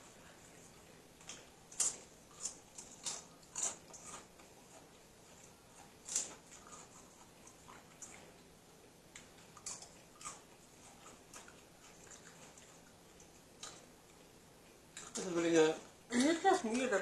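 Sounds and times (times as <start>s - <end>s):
chewing and crunching chips: 0.0s - 16.0s.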